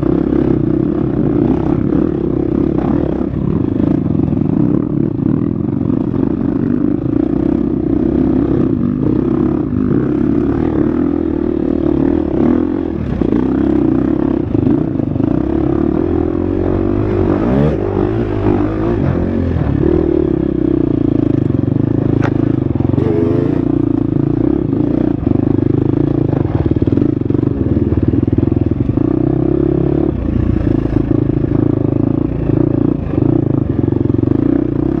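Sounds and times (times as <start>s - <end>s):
dirt bike engine running: 0.0s - 35.0s.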